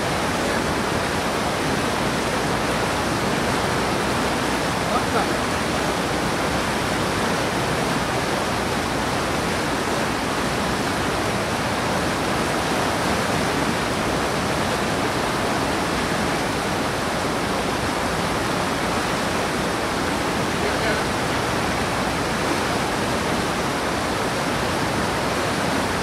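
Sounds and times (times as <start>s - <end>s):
water rushing over boulders: 0.0s - 26.0s.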